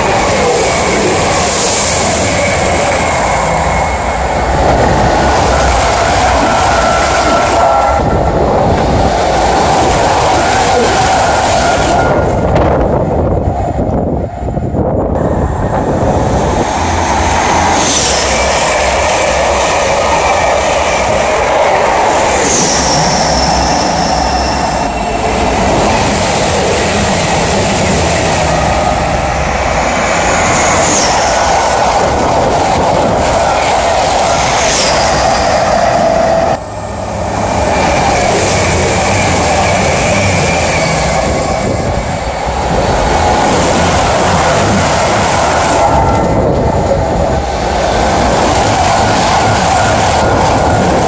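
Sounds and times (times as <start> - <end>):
trains rushing on rails: 0.0 - 51.0.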